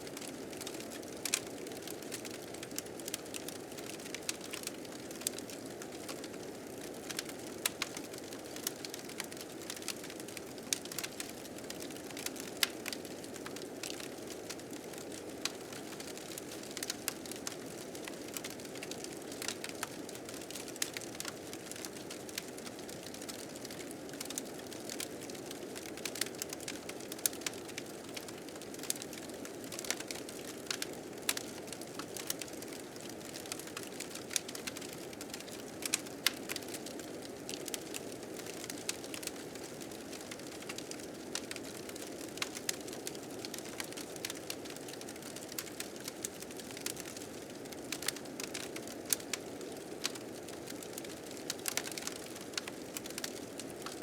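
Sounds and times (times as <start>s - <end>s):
wood fire crackling and popping: 0.1s - 54.0s.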